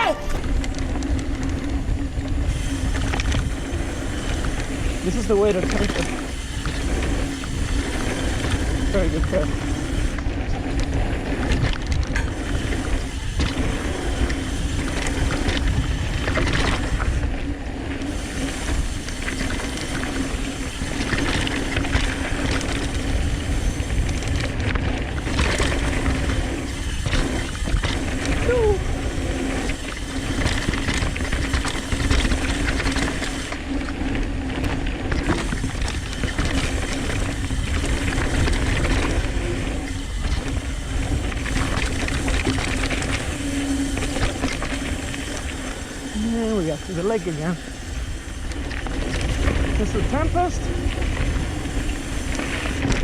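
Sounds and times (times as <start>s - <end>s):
bike tyres rumbling on dirt: 0.0s - 53.0s
wind buffeting microphone: 0.3s - 53.0s.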